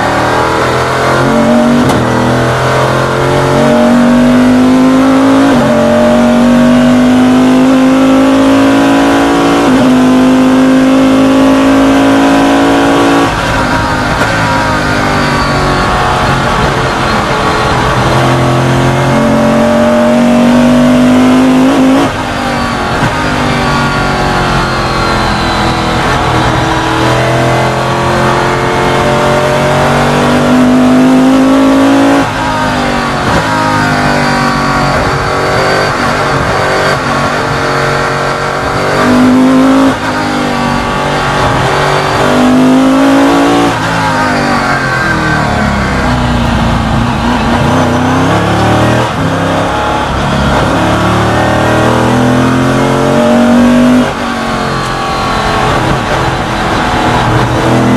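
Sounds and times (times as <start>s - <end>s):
race car engine at full throttle: 0.0s - 57.9s.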